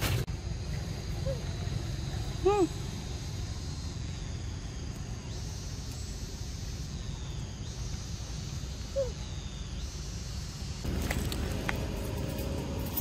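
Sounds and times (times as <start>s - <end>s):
high insect drone: 0.2s - 13.0s.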